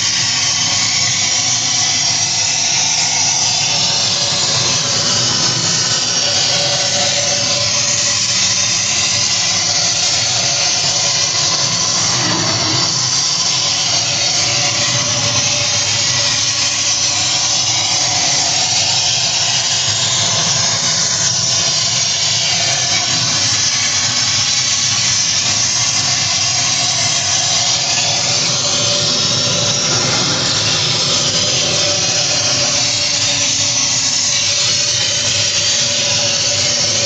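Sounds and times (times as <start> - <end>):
gas torch flame hissing: 0.0 - 37.0.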